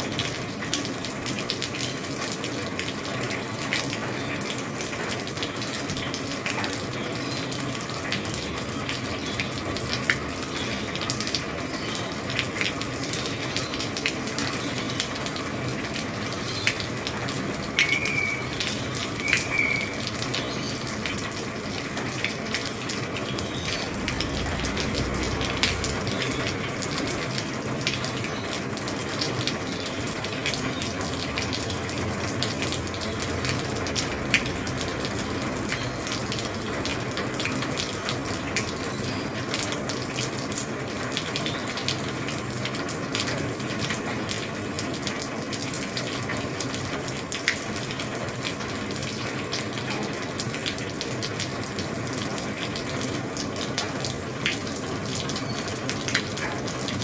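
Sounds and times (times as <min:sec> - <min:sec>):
heavy rain on roof: 0:00.0 - 0:57.0.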